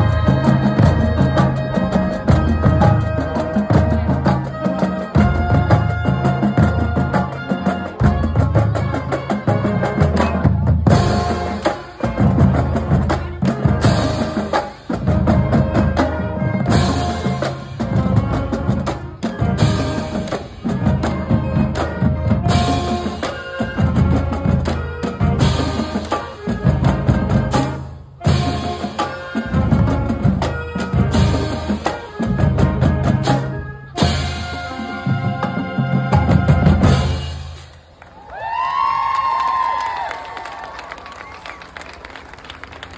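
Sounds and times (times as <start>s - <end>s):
saxophones and sousaphones: 0.0s - 37.6s
drums: 0.0s - 42.9s.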